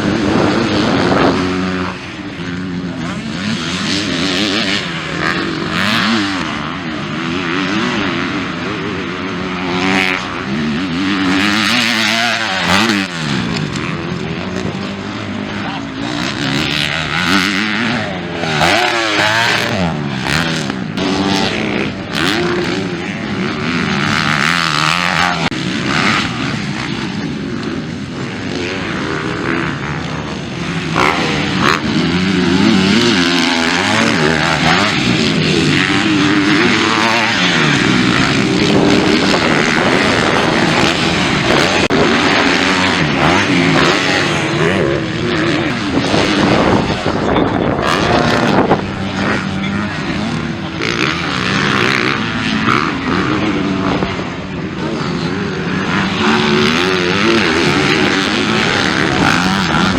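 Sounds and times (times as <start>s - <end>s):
motocross bikes revving past: 0.0s - 59.9s.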